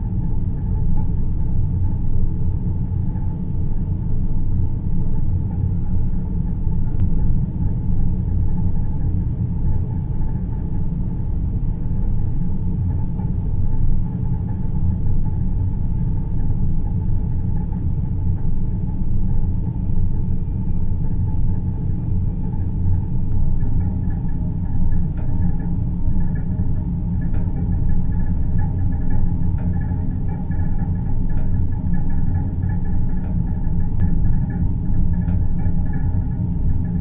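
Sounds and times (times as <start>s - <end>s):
deep synthesized rumble: 0.0s - 37.0s
faint hum: 0.0s - 37.0s.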